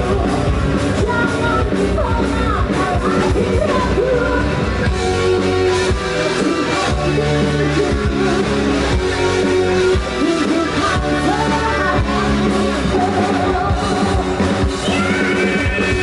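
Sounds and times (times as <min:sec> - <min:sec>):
live rock band playing: 0:00.0 - 0:16.0
person singing: 0:00.0 - 0:16.0.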